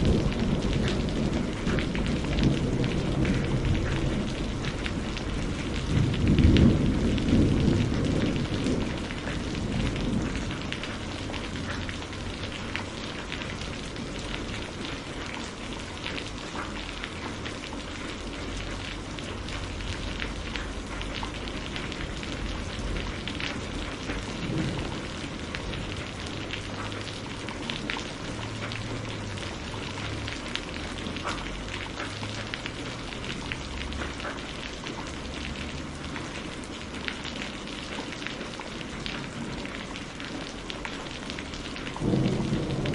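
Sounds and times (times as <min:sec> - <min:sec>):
steady rain: 0:00.0 - 0:42.9
thunder rumbling: 0:00.0 - 0:42.9.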